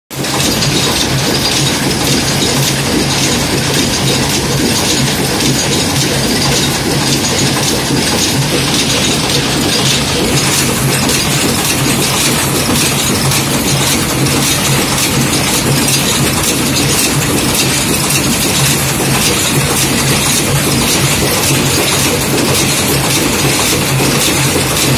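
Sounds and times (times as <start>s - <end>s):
machine metallic clatter: 0.2s - 24.9s.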